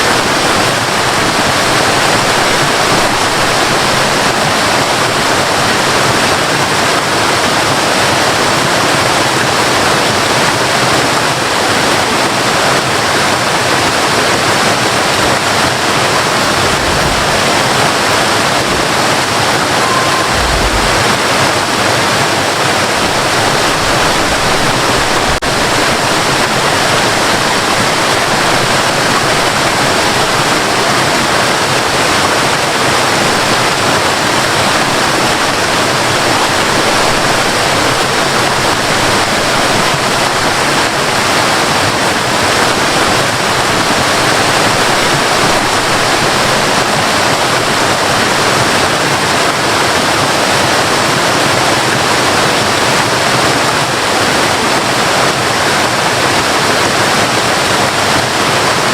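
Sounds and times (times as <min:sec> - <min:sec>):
waterfall roaring: 0:00.0 - 0:58.9.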